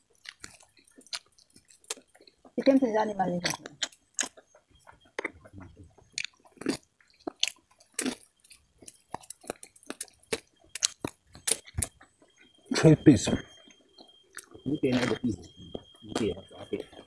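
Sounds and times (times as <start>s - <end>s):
chewing corn on the cob: 0.0s - 17.0s.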